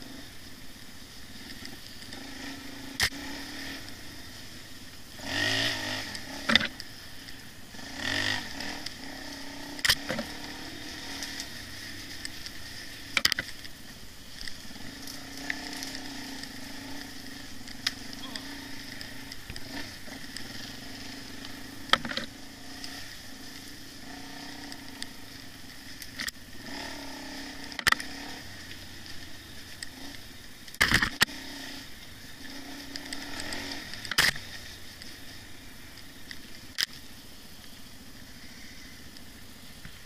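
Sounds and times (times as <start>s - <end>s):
dirt bike engine at low revs: 0.0s - 40.0s.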